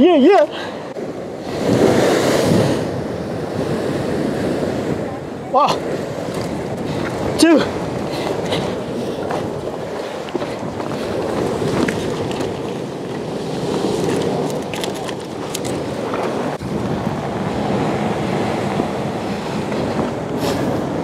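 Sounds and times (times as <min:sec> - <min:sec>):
wind buffeting microphone: 0:00.0 - 0:21.0
surf breaking on rocks: 0:00.2 - 0:21.0.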